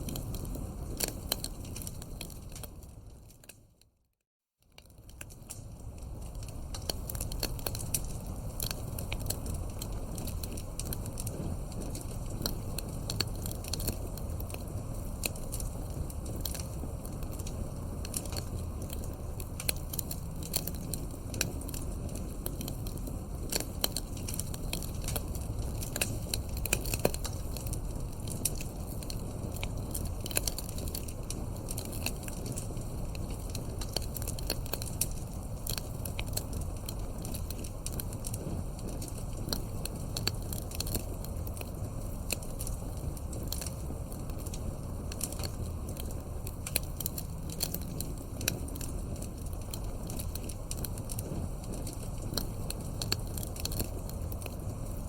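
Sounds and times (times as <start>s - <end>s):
wood fire crackling: 0.0s - 3.9s, 4.7s - 55.0s.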